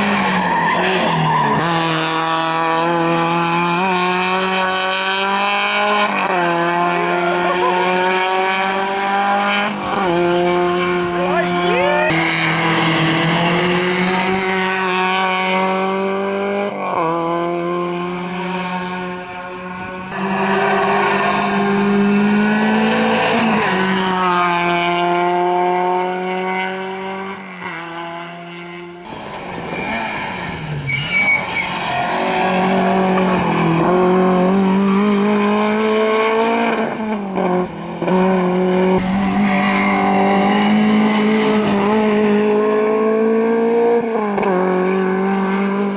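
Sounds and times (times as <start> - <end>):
rally car engines at full throttle: 0.0 - 45.9.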